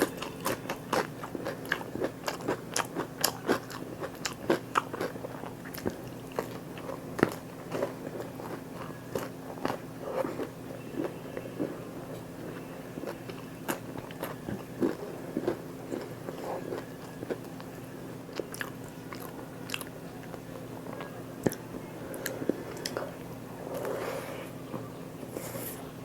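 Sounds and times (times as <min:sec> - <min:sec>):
person chewing crunchy food: 0:00.0 - 0:24.2.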